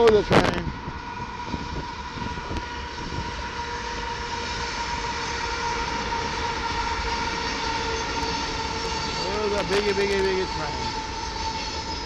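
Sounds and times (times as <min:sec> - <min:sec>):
faint steady whine: 0:00.0 - 0:12.0
train rumbling past: 0:00.0 - 0:12.0.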